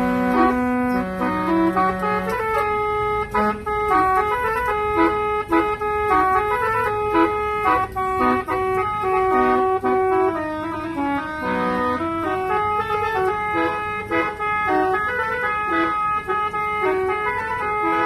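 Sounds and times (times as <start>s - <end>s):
multi-tone musical car horn: 0.0s - 18.0s.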